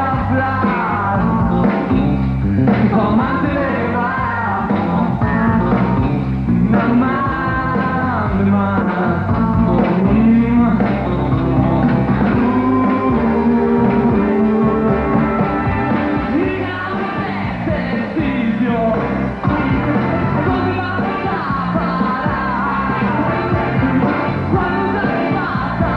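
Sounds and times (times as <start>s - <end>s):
person singing: 0.0s - 2.0s, 2.7s - 25.9s
rock band playing live: 0.0s - 25.9s.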